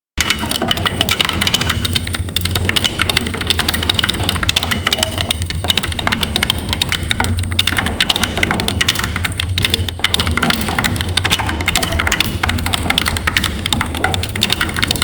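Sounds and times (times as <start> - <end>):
fast clicks and crackles: 0.2 - 15.0.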